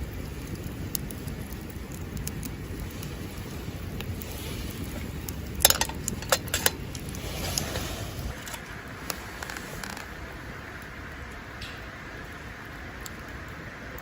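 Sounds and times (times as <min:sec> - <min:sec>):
campfire crackling: 0:00.0 - 0:14.0
sharp pops of fire: 0:00.0 - 0:14.0
wind rumble on microphone: 0:00.0 - 0:14.0.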